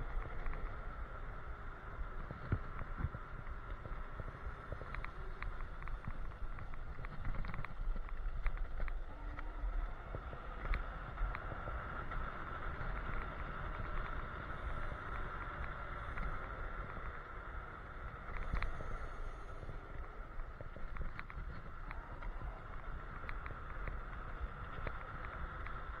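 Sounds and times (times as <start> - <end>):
scooter motor whine: 0.0 - 26.0
tyre rumble on road: 0.0 - 26.0.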